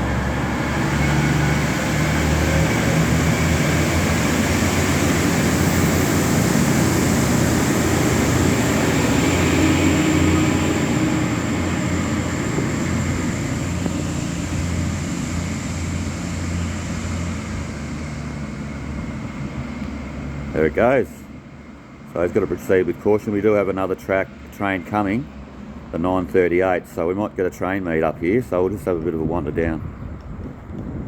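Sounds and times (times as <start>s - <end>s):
diesel railcar engines humming: 0.0s - 31.0s.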